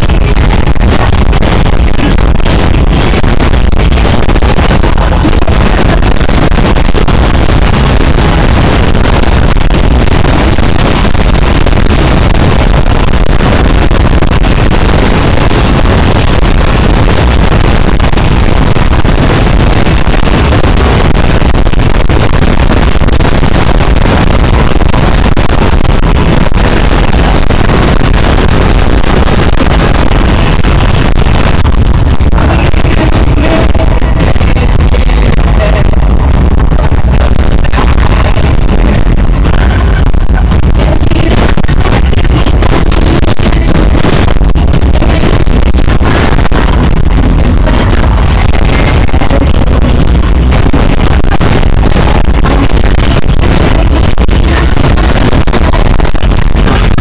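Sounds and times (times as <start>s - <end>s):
distorted live pop concert music: 0.0s - 57.0s.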